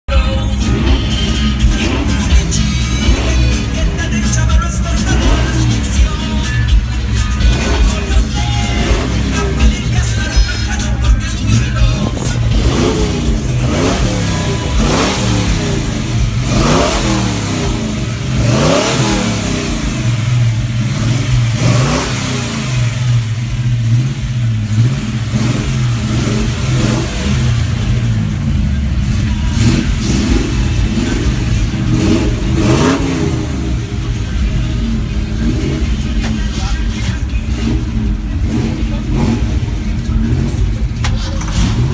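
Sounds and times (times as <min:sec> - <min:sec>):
car engines revving: 0:00.0 - 0:41.9
engine idle hum: 0:00.1 - 0:41.9.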